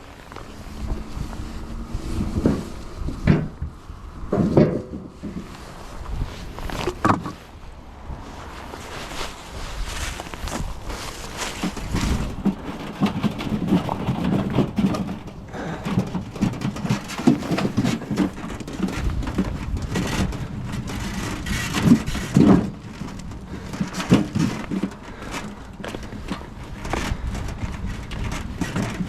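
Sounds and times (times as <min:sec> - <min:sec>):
firewood knocking and clattering: 0:00.0 - 0:29.0
rustling and scraping: 0:00.0 - 0:29.0.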